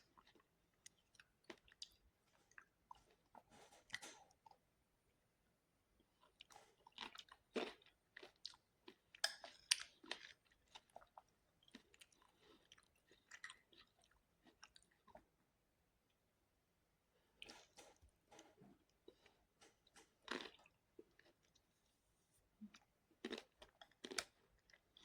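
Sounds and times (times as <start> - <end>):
person chewing food: 0.0 - 4.6, 6.0 - 15.4, 17.3 - 22.0, 22.6 - 25.0.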